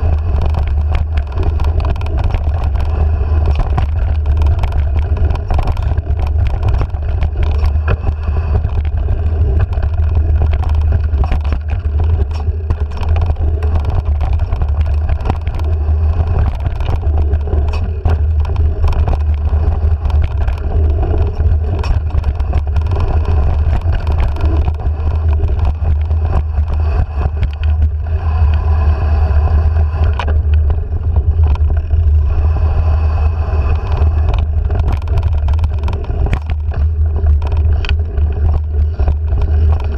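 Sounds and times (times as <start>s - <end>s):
bike knocking and rattling: 0.0s - 39.9s
wind rumble on microphone: 0.0s - 39.9s.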